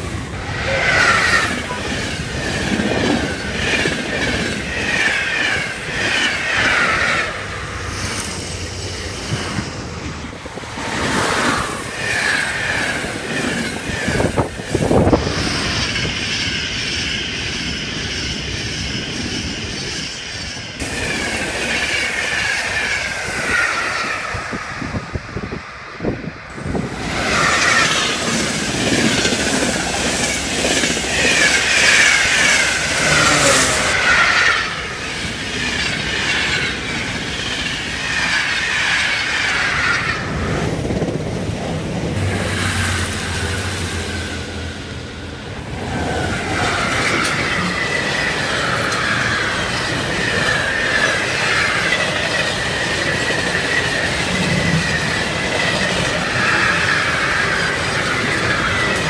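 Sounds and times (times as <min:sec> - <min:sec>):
trains rushing past: 0:00.0 - 0:59.0.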